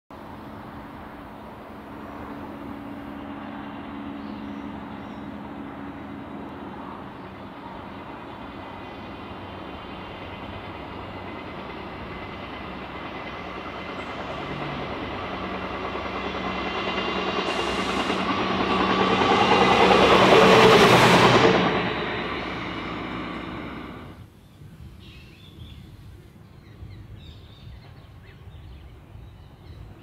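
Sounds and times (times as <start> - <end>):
diesel railcar engine drone: 0.1 - 24.8.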